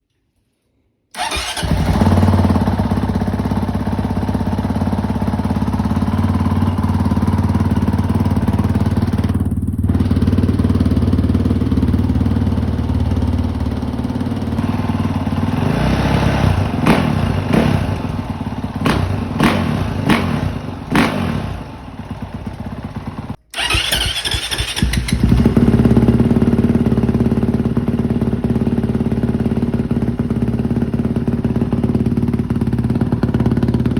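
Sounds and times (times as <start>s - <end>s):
dirt bike engine idling and revving: 1.2s - 33.9s.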